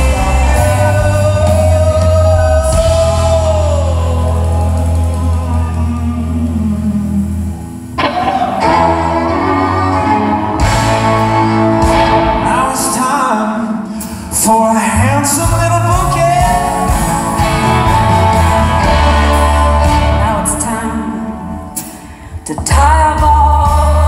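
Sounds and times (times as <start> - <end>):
steady bass line: 0.0 - 13.3, 14.4 - 24.0
live music with singing: 0.0 - 24.0.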